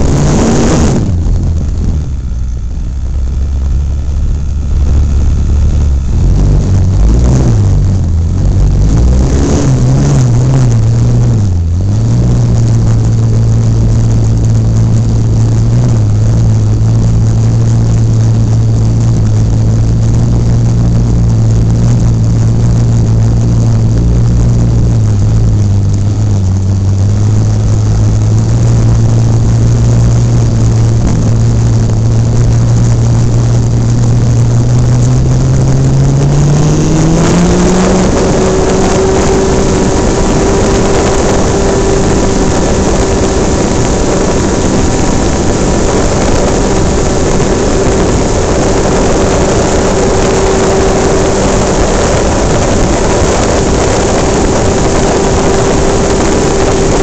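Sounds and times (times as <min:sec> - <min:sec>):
model airplane motor and propeller: 0:00.0 - 0:57.0
rush of air: 0:00.0 - 0:57.0.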